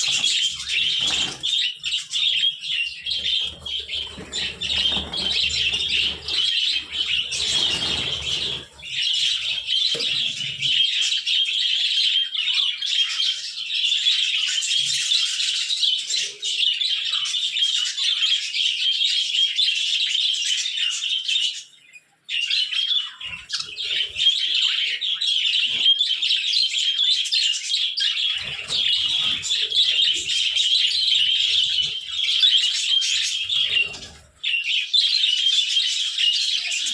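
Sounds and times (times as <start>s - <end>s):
budgerigars chattering and chirping: 0.0s - 36.9s.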